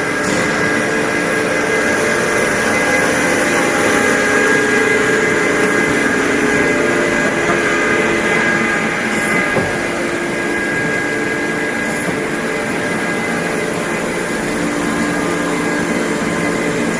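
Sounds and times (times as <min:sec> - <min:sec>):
constant high whine: 0:00.0 - 0:16.9
lathe machine hum: 0:00.0 - 0:16.9.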